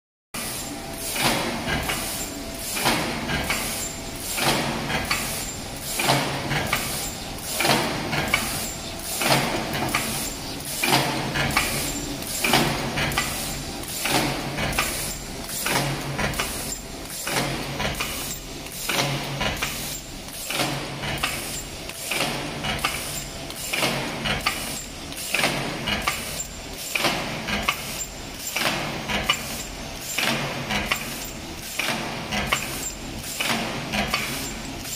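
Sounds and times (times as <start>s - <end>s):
forming press clacking: 1.0s - 34.9s
light machine clicks: 1.1s - 34.9s.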